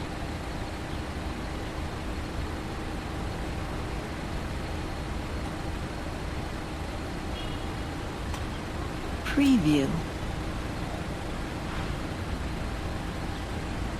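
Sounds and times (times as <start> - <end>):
passing cars on road: 0.0 - 13.9.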